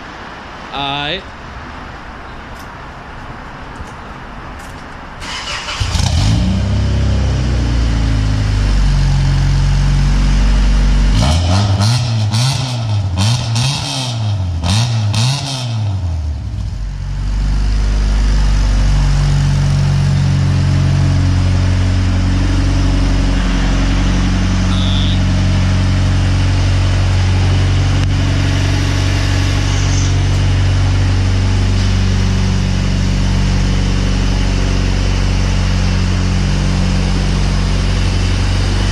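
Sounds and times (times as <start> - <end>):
loud car engine and exhaust: 0.0 - 38.9.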